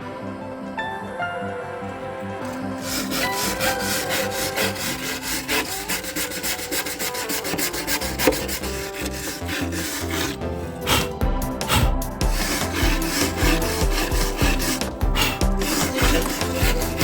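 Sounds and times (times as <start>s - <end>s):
background music: 0.0s - 17.0s
rubbing strokes on wooden board: 2.8s - 17.0s.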